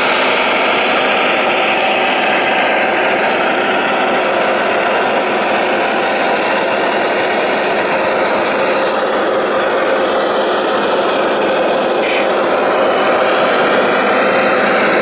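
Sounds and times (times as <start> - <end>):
excavator mechanical hum: 0.0 - 15.0.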